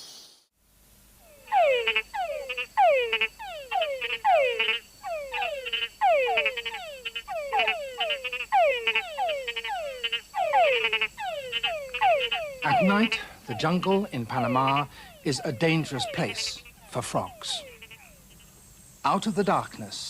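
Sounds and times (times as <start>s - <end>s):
frogs calling: 1.1s - 20.0s.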